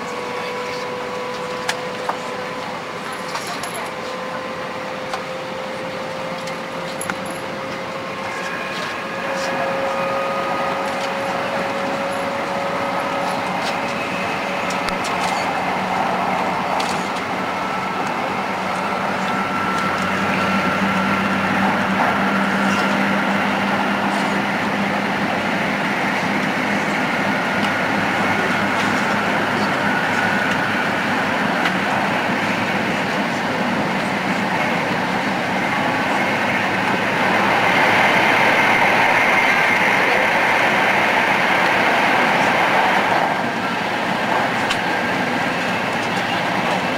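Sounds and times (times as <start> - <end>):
train running noise: 0.0 - 46.9
train traction motors whining: 0.0 - 46.9.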